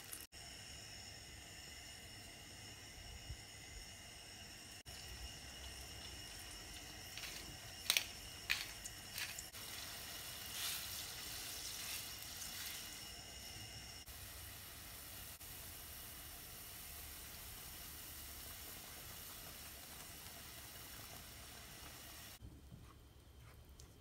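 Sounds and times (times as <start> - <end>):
steady hiss: 0.0 - 22.4.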